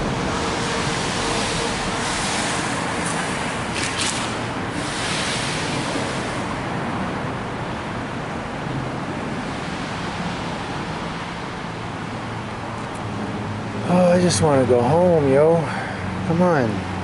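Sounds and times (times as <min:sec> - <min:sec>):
tyres on wet road: 0:00.0 - 0:17.0.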